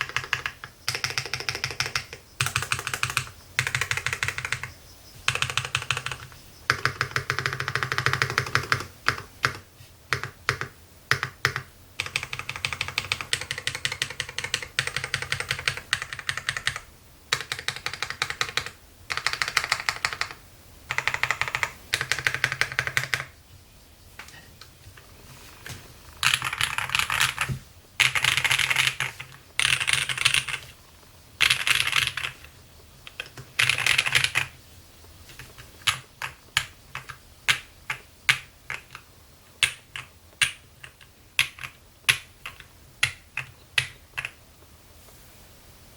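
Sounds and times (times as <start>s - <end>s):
fast typing on mechanical keyboard: 0.0s - 4.7s, 5.3s - 23.4s, 26.1s - 30.8s, 31.4s - 32.5s, 33.1s - 34.5s, 35.4s - 39.0s, 39.6s - 44.4s.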